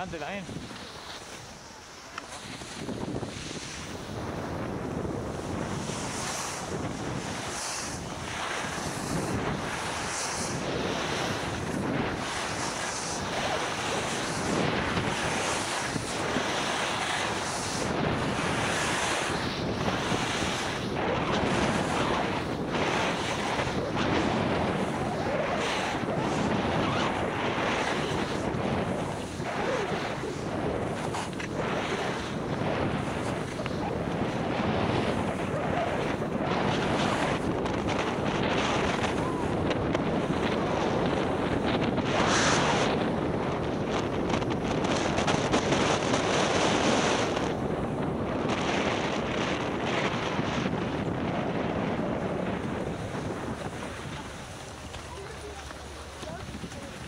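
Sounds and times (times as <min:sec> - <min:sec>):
skis sliding on snow: 0:00.0 - 0:57.0
wind rushing over microphone: 0:00.0 - 0:57.0.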